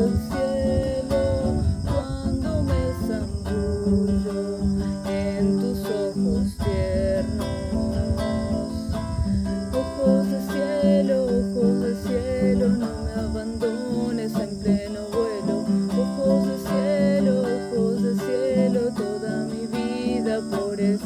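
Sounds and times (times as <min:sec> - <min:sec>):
acoustic guitar playing: 0:00.0 - 0:21.0
insects chirring: 0:00.0 - 0:21.0.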